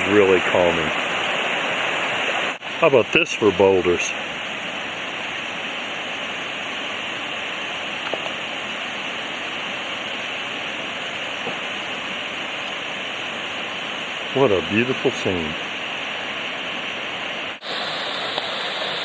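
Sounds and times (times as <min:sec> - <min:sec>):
stream rushing over boulders: 0:00.0 - 0:19.0.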